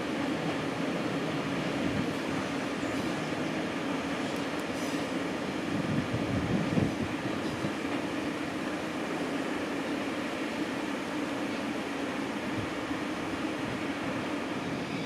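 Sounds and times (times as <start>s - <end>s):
electric train rail rumble: 0.0s - 15.0s.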